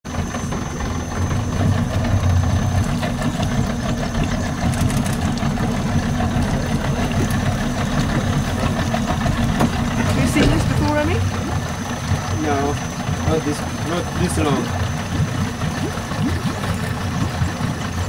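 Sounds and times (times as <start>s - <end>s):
motor engine idling: 0.1s - 18.0s.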